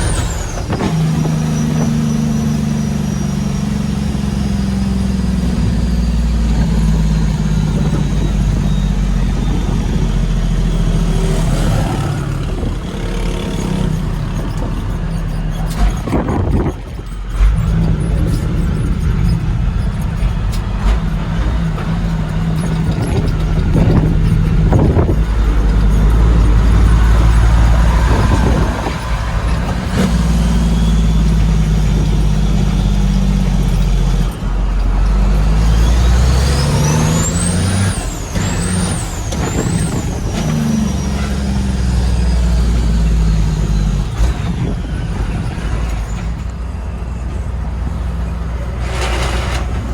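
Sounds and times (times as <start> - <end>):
diesel truck engine under load: 0.0 - 49.9.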